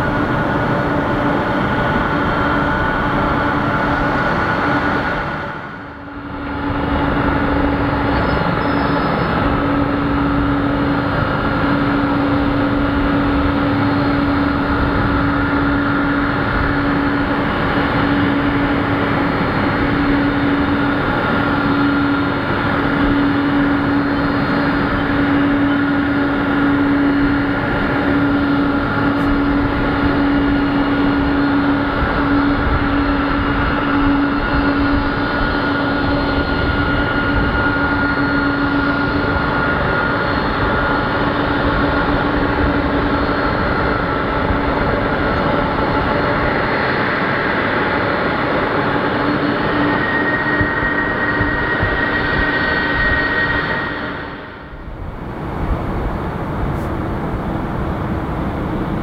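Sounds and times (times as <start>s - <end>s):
jet engine hum and whine: 0.0s - 59.0s.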